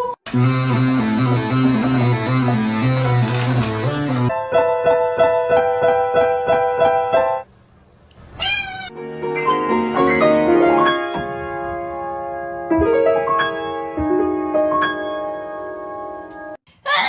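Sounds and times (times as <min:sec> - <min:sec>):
piano music: 0:00.3 - 0:07.5, 0:08.9 - 0:16.6.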